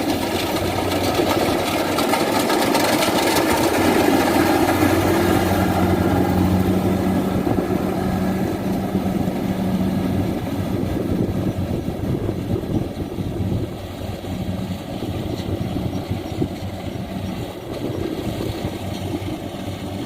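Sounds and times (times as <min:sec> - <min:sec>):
combine harvester engine droning: 0:00.0 - 0:20.0.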